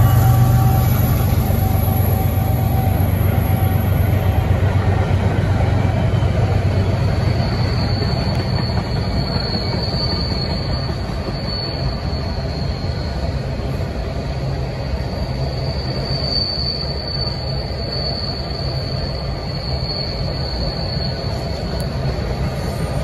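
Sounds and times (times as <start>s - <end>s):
high-pitched whine: 0.0s - 23.0s
train wheels rumbling on rail: 0.0s - 23.0s.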